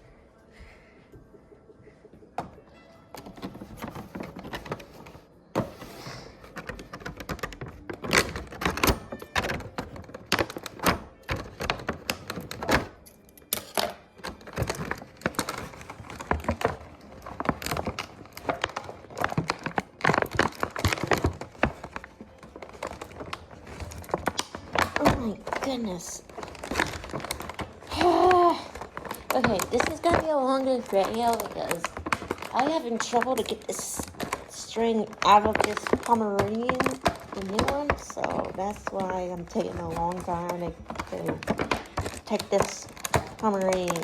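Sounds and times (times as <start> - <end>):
plastic toy packaging clicking: 6.2 - 44.0.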